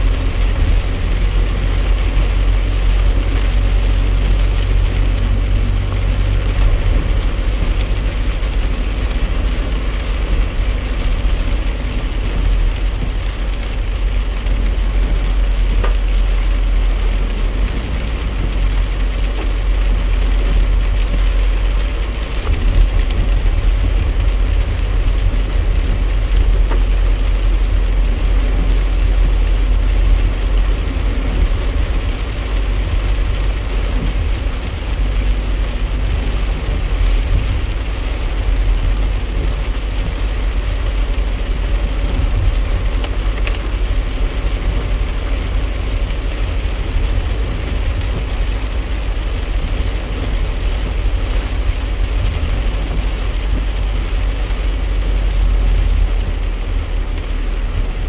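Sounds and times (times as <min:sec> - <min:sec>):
rain on windshield: 0:00.0 - 0:58.0
truck engine and road rumble: 0:00.0 - 0:58.0
tyres hissing on wet pavement: 0:00.0 - 0:58.0.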